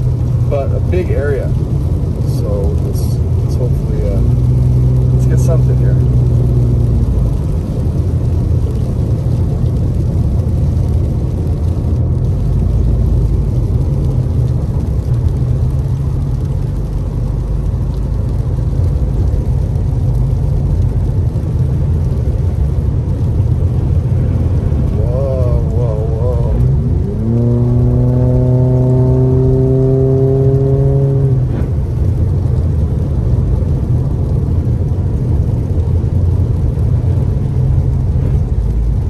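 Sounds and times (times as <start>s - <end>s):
car engine and tyre rumble: 0.0s - 39.0s
wet road hiss: 0.0s - 39.0s.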